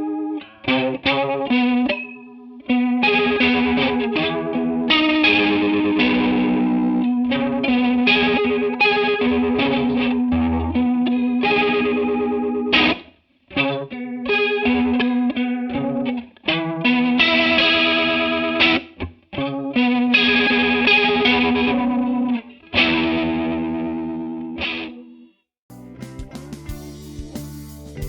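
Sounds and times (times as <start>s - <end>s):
electric guitar chords with chorus: 0.0s - 28.0s.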